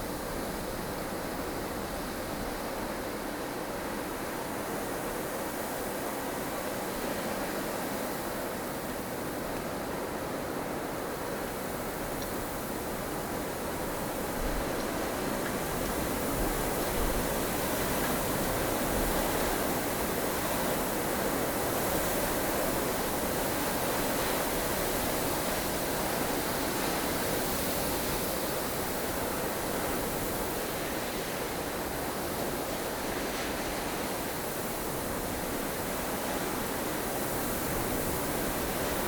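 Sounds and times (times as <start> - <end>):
blustery snowstorm wind: 0.0 - 39.0.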